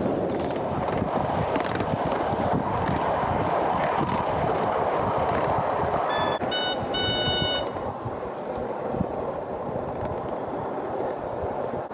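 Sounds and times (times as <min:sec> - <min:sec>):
miniature train rolling on track: 0:00.0 - 0:06.6, 0:07.7 - 0:11.9.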